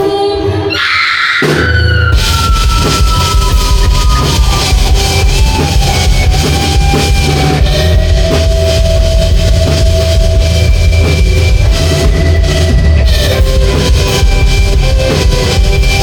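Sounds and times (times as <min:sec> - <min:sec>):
pounding drum kit beat: 0:01.4 - 0:16.0
electric guitar sliding notes: 0:02.0 - 0:16.0.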